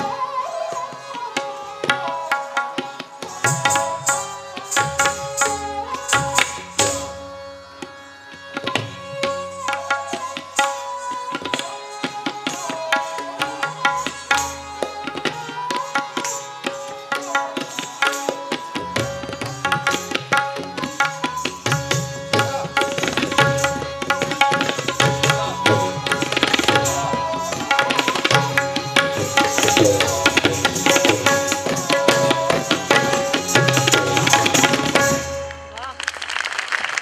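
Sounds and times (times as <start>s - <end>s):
tabla playing fast rhythm: 0.0s - 36.7s.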